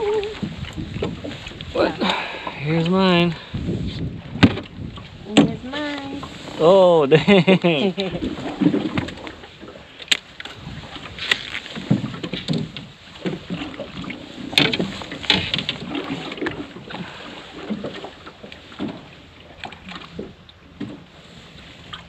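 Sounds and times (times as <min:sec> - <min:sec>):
wind on microphone: 0:00.0 - 0:09.8, 0:10.4 - 0:22.0
water lapping against boat hull: 0:00.0 - 0:22.0.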